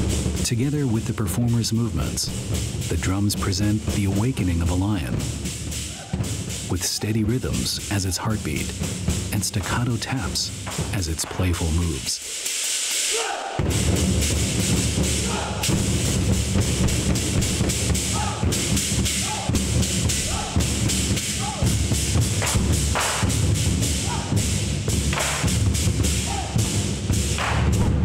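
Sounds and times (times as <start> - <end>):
large drums beaten rhythmically: 0.0 - 28.0.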